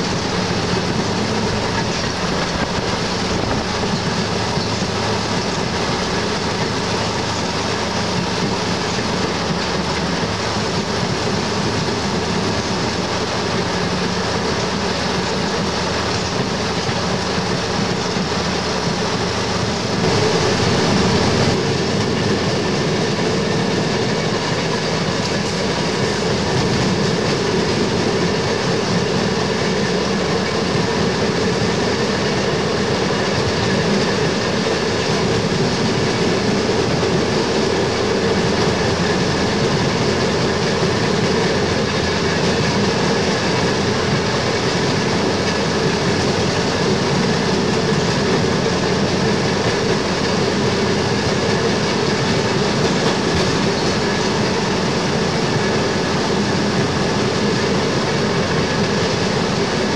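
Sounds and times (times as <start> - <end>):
train wheels running on rail: 0.0 - 59.9.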